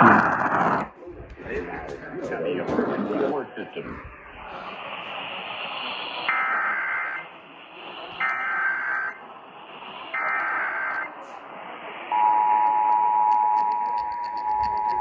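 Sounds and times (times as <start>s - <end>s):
radio hiss: 0.1s - 13.3s.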